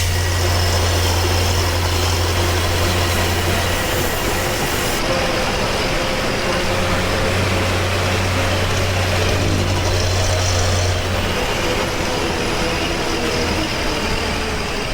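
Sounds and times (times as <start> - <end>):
bus diesel engine running: 0.0 - 14.9.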